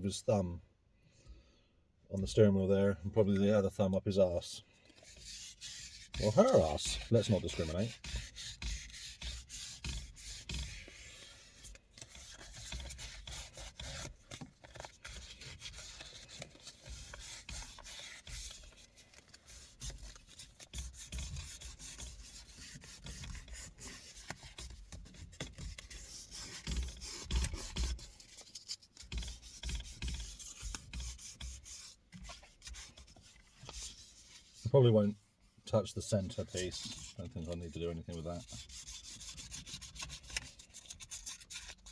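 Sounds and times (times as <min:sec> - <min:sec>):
sandpaper rubbing on leather: 0:05.0 - 0:35.2, 0:35.8 - 0:41.9.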